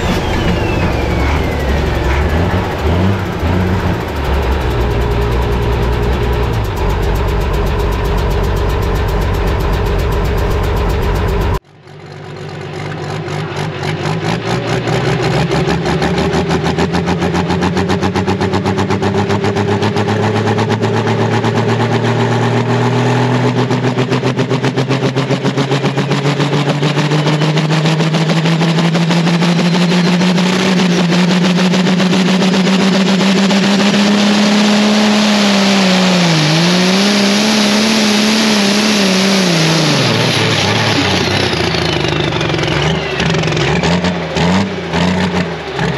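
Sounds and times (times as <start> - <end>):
diesel tractor engine at full power: 0.0 - 45.9.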